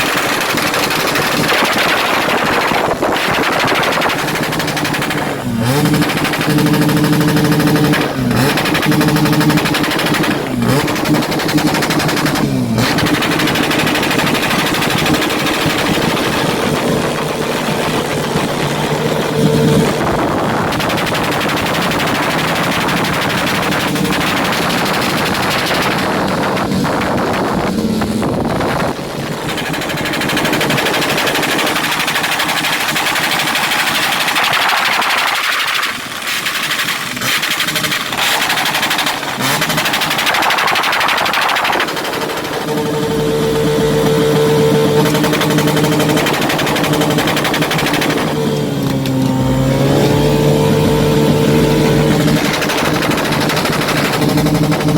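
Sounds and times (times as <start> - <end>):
motorcycle engine on rev limiter: 0.0 - 54.9.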